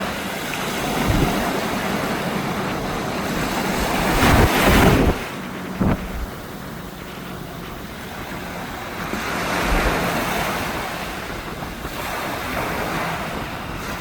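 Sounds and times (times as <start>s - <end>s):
ocean surf on beach: 0.0s - 14.0s
wind buffeting microphone: 0.0s - 14.0s.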